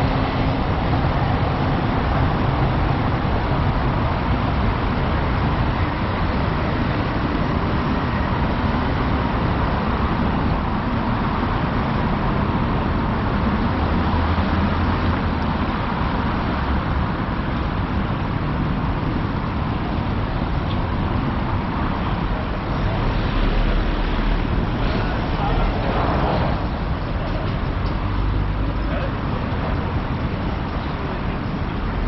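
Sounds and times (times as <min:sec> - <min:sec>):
subway station roar: 0:00.0 - 0:32.0.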